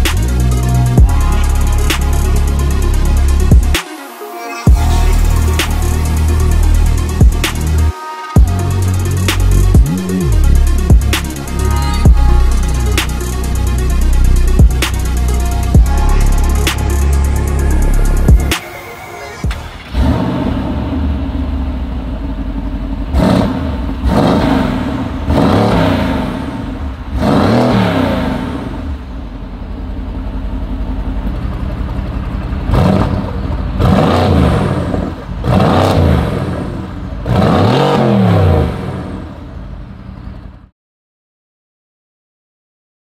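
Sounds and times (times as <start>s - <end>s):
car engine idling and revving: 0.0s - 40.7s.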